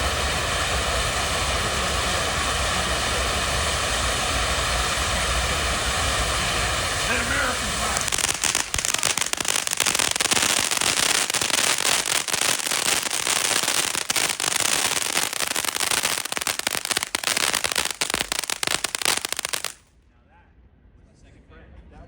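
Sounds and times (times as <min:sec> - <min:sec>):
fireworks crackling and banging: 0:00.0 - 0:19.9.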